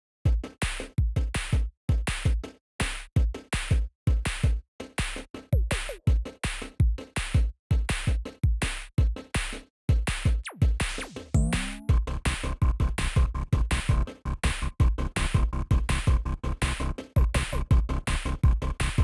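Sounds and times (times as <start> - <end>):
electronic music with drum-machine beat: 0.3 - 19.0.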